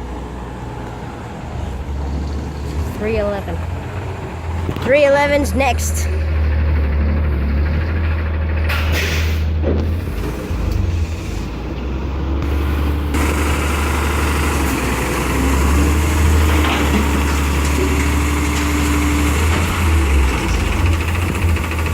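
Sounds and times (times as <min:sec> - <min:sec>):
garbage truck engine rumbling: 0:00.0 - 0:21.9.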